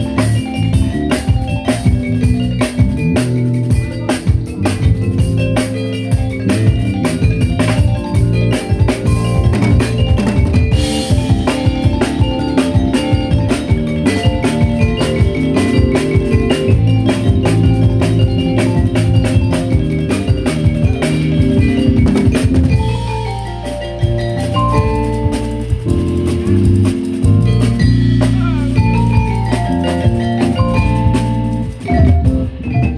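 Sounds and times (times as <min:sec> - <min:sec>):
bass: 0:00.0 - 0:32.9
drum kit: 0:00.0 - 0:32.9
tuned mallet percussion: 0:00.0 - 0:32.9.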